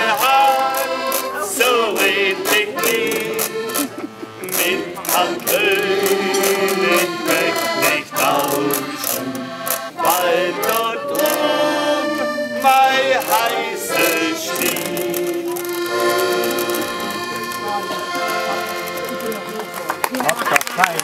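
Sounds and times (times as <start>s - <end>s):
men singing: 0.0s - 17.0s
piano accordion: 0.0s - 21.0s.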